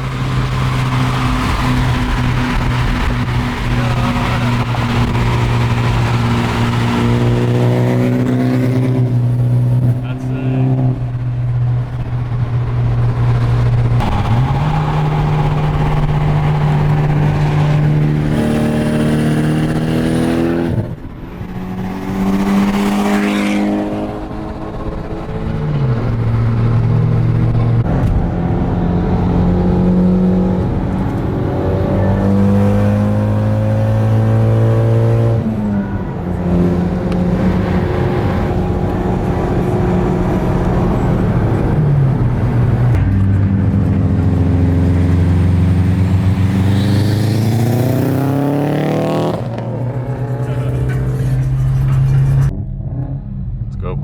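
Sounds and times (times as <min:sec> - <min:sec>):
car engine changing gears: 0:00.0 - 0:54.0.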